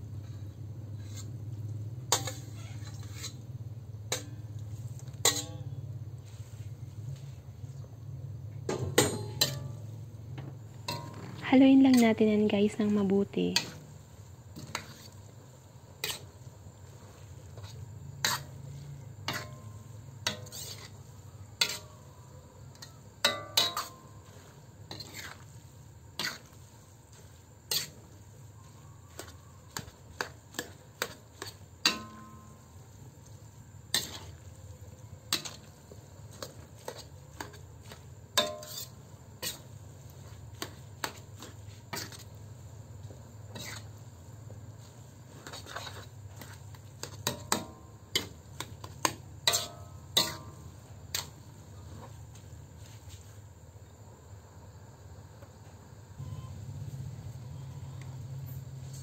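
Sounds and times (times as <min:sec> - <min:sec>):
spatula scraping and knocking pan: 0:02.1 - 0:06.7, 0:08.6 - 0:53.3.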